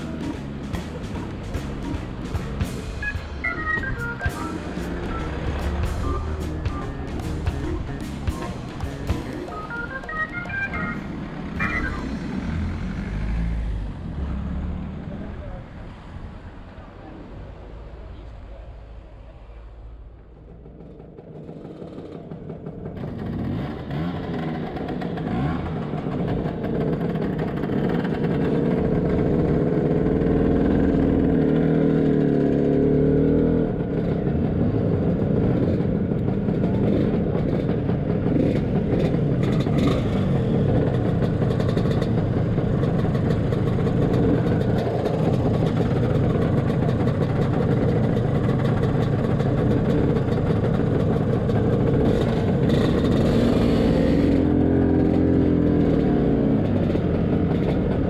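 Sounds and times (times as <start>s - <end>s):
scooter engine: 0.0s - 15.7s, 19.8s - 58.0s.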